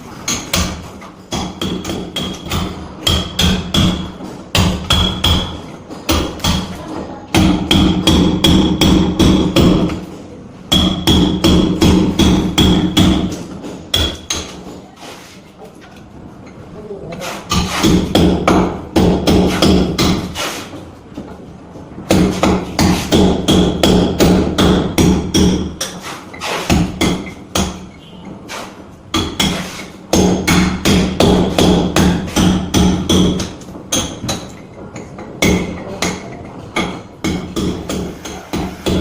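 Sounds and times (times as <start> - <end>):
hammering: 0.0 - 10.1, 10.7 - 14.9, 17.1 - 21.4, 22.0 - 39.0.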